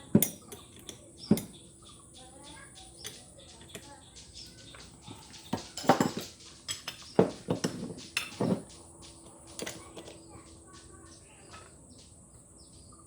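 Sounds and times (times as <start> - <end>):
metal tools clinking on engine parts: 0.0 - 10.9.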